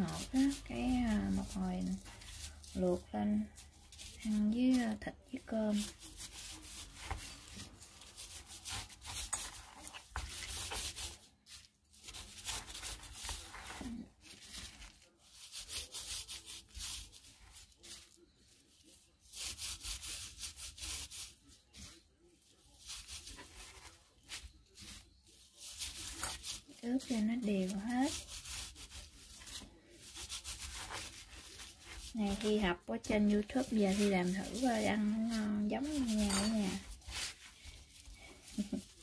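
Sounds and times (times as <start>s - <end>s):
hands rubbing raw meat: 0.0s - 39.0s.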